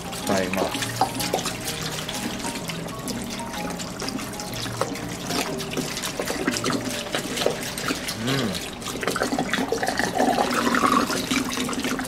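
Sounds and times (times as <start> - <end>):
liquid pouring into a pot: 0.0 - 12.0.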